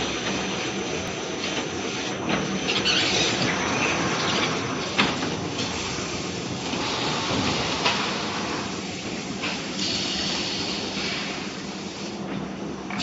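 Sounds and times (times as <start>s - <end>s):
conveyor rollers and machinery: 0.0s - 13.0s.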